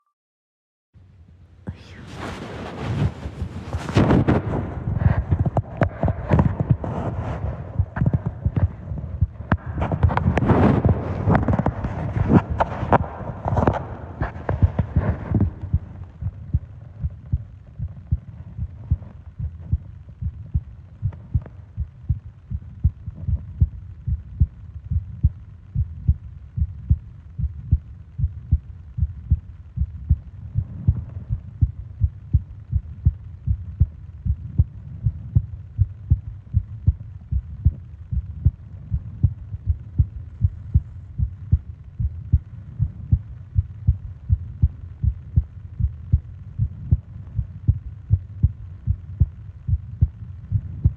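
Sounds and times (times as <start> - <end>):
heartbeat thumps: 1.7 - 50.9.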